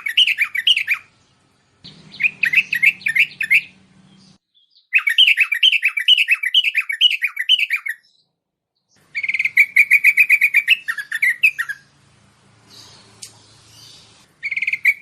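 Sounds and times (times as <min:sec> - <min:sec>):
bird song warbling and trilling: 0:00.0 - 0:15.0.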